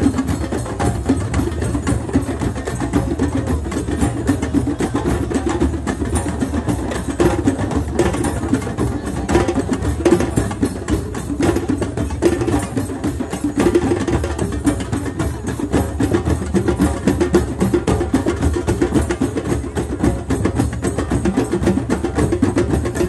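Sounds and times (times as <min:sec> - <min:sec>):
fast drum rhythm: 0:00.0 - 0:23.0.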